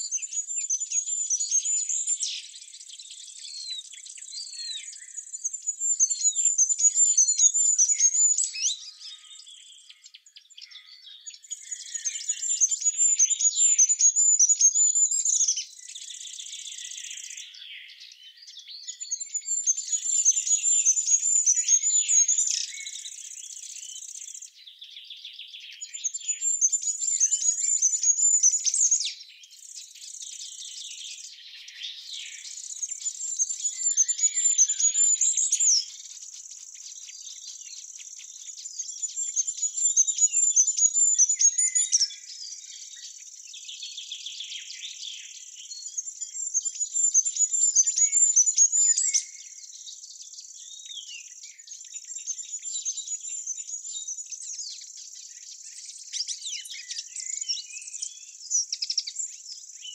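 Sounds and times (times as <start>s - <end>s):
birds chirping and calling: 0.0s - 59.9s.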